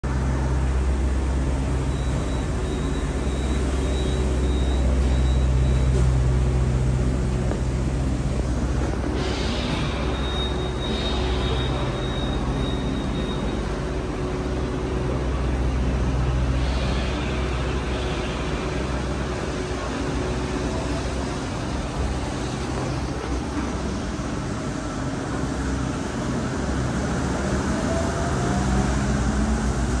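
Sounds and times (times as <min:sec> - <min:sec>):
monorail train humming: 0:00.0 - 0:30.0.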